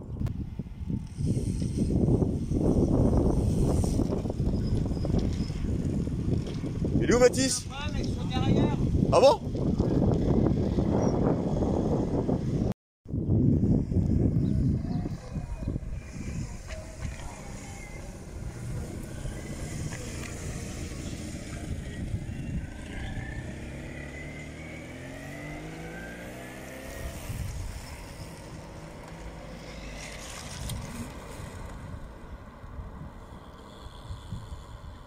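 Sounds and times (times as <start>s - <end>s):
wind rumble on microphone: 0.0s - 35.0s
motorcycle passing: 0.4s - 12.7s, 13.4s - 35.0s.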